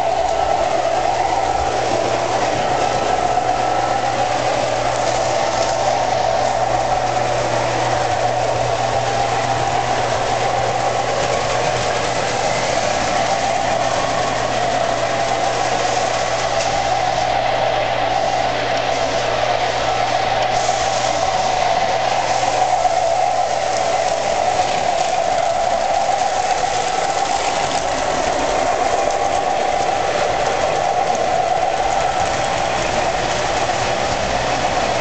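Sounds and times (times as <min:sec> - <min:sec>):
low hum: 0:00.0 - 0:35.0
model train motor whirring: 0:00.0 - 0:35.0
wheels rolling on rails: 0:00.0 - 0:35.0.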